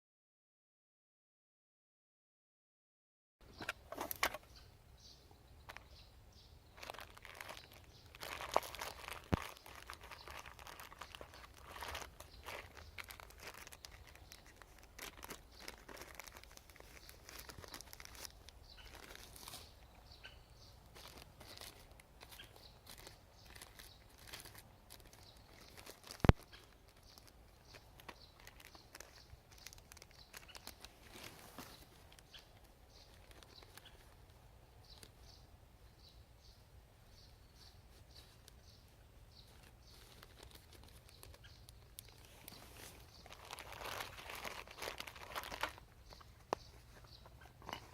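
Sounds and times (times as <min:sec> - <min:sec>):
rustling and crinkling: 0:03.5 - 0:04.5, 0:06.7 - 0:35.3, 0:37.6 - 0:47.9.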